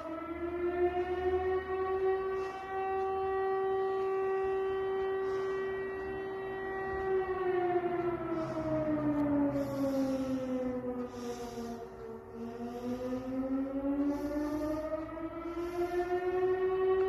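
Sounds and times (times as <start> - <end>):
air raid siren wailing: 0.0 - 17.0.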